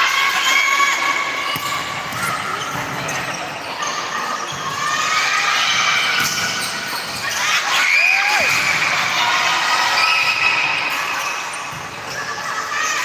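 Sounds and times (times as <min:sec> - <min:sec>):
voices shouting in a hall: 0:00.0 - 0:13.0.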